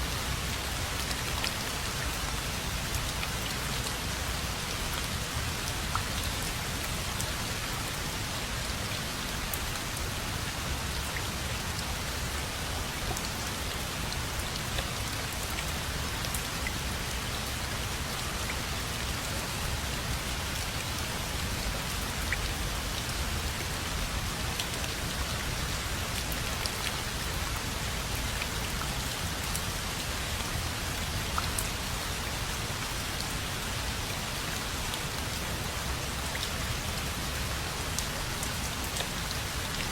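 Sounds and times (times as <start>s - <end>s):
steady rainfall: 0.0s - 39.9s
raindrops ticking on a surface: 0.1s - 7.8s, 8.6s - 39.9s.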